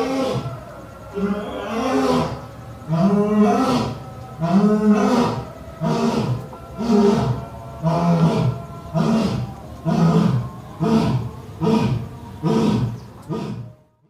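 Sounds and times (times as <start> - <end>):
lion roaring: 0.0 - 13.8.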